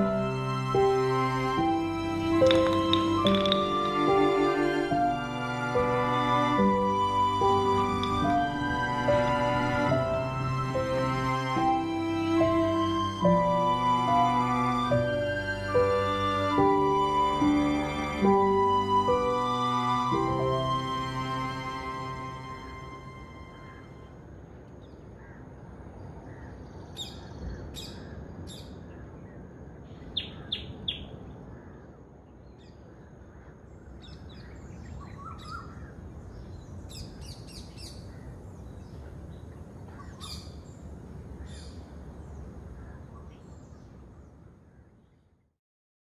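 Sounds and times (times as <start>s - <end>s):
low steady outdoor rumble: 0.0s - 45.3s
wild birds chirping: 0.0s - 45.5s.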